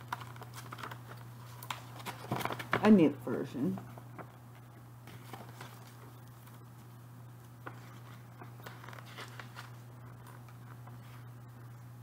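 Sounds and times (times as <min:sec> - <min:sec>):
paper rustling: 0:00.0 - 0:03.0, 0:03.8 - 0:11.4
steady low hum: 0:00.0 - 0:12.0.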